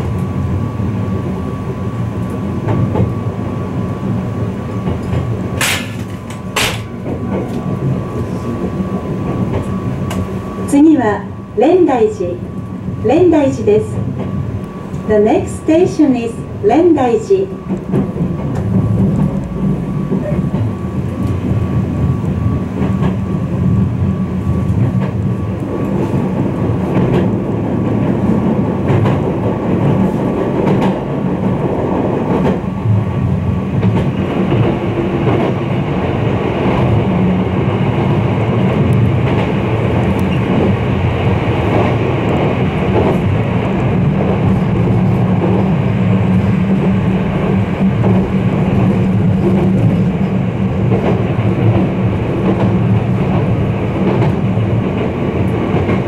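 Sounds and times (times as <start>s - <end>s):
train wheels rumbling on rails: 0.0s - 56.0s
rail joint clicks: 2.1s - 3.4s, 4.4s - 11.0s, 12.1s - 56.0s.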